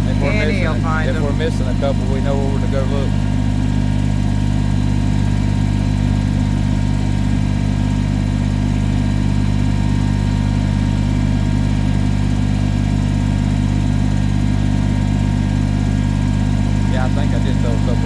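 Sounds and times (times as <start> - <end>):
tractor engine running steadily: 0.0 - 18.0.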